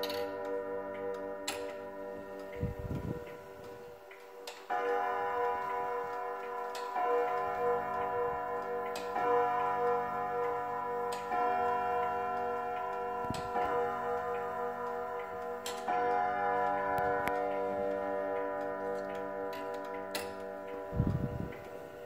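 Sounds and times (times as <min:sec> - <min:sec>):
clock gong strikes: 0:00.0 - 0:22.0
clock ticking: 0:00.0 - 0:22.0.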